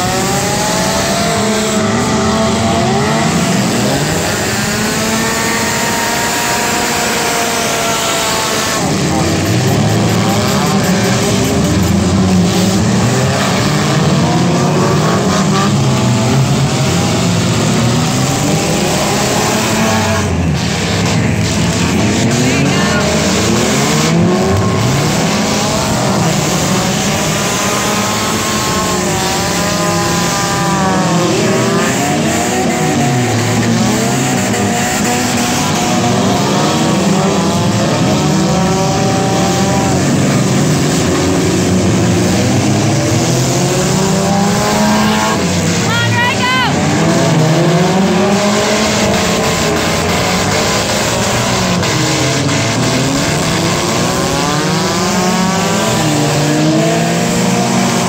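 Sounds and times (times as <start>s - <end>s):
car engines running hard: 0.0s - 58.0s.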